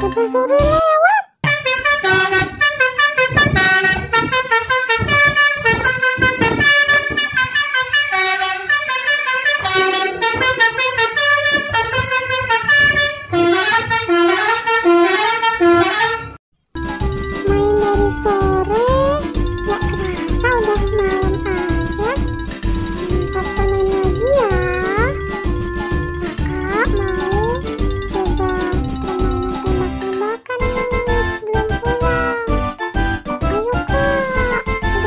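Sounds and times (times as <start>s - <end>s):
instrumental music with horn melody: 1.4s - 35.0s.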